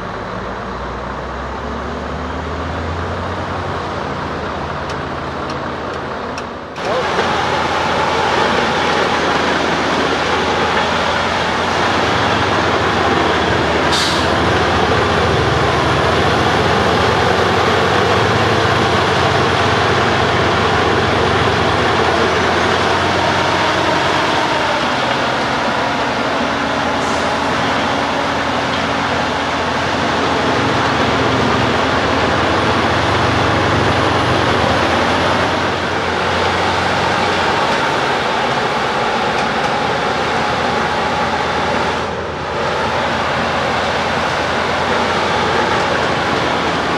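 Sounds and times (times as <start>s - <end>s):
engine running: 0.0s - 46.9s
wood chipper chipping: 6.8s - 46.9s.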